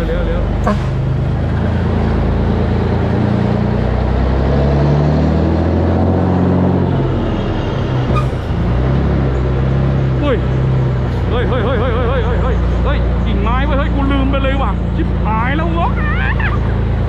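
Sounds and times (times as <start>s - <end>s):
diesel truck engine: 0.0s - 17.0s.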